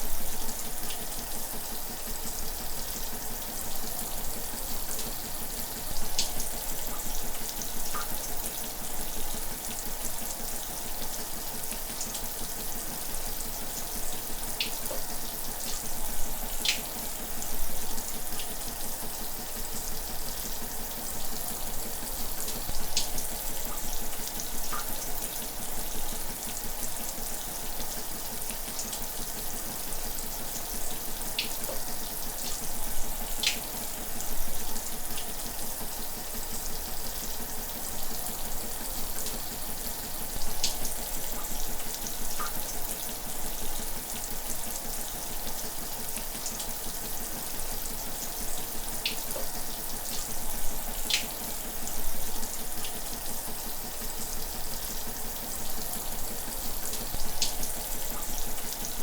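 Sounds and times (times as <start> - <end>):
shower running: 0.0 - 59.0.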